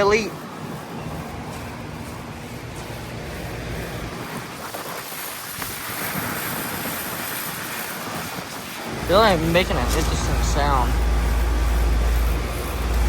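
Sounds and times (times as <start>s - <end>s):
air conditioner fan rushing: 0.0s - 13.0s
compressor humming: 0.0s - 13.0s.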